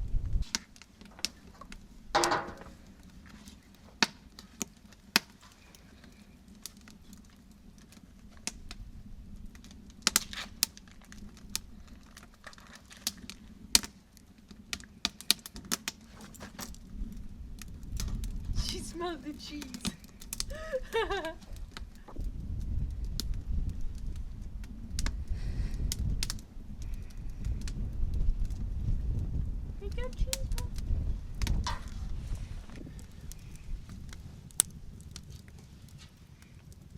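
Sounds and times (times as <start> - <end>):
campfire crackling: 0.0 - 36.9.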